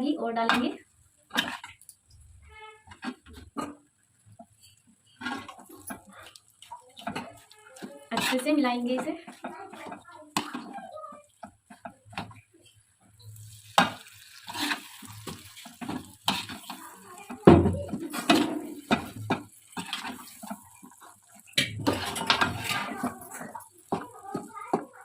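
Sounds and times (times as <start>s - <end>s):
spatula scraping a metal pan: 1.3s - 1.8s, 4.4s - 10.9s, 11.7s - 24.9s.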